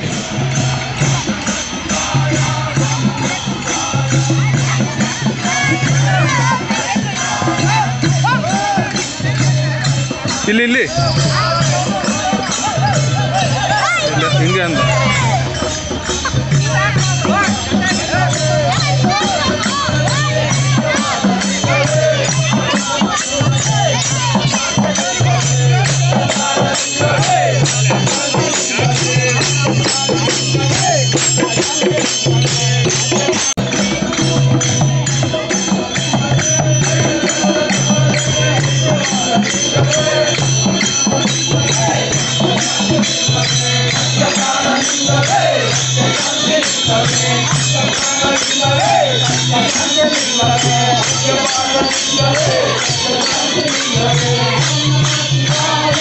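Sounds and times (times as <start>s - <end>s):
group singing: 0.0s - 56.0s
hand cymbals clashing: 0.0s - 56.0s
hand drums beating: 0.0s - 56.0s.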